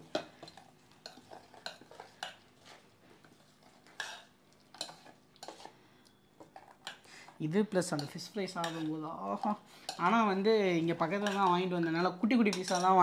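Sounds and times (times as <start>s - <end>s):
spoon scraping and clinking a pot: 0.0s - 5.8s, 6.4s - 13.0s.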